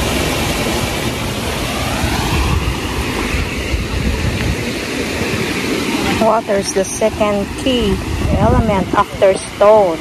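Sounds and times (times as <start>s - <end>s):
stream rushing over stones: 0.0s - 10.0s
wind buffeting microphone: 0.0s - 10.0s.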